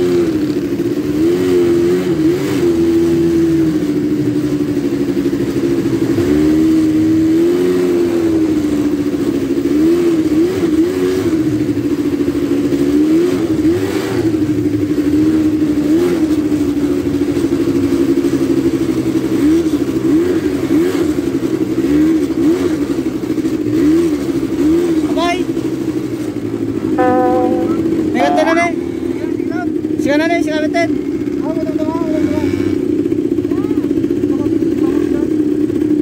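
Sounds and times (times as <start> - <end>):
quad bike engine revving: 0.0 - 27.4, 30.9 - 36.0.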